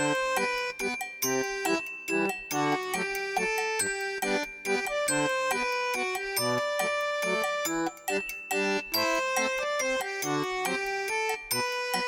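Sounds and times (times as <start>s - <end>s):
cheerful keyboard music: 0.0s - 12.0s.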